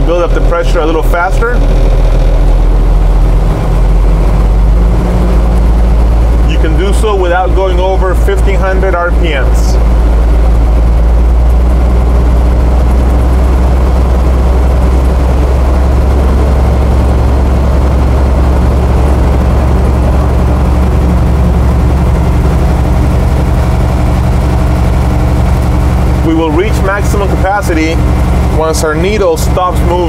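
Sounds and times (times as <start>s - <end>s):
truck engine at raised revs: 0.0s - 30.0s.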